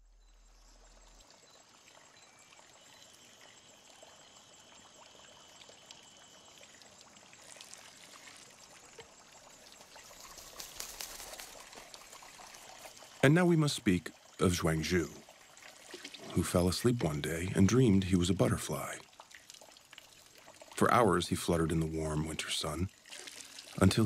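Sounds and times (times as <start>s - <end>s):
water drips: 0.2s - 24.0s
water trickling into a basin: 0.2s - 24.0s.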